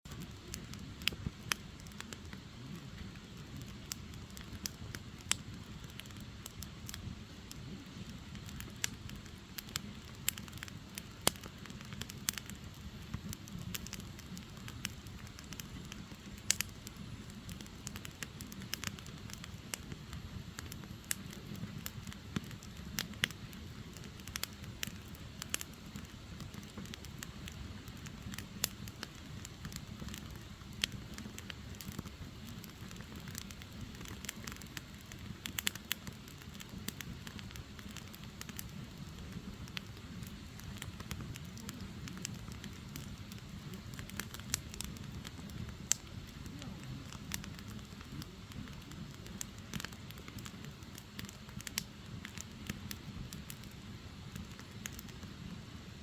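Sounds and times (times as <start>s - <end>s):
logs crackling and popping: 0.1s - 56.0s
low rumble of flames: 0.1s - 56.0s.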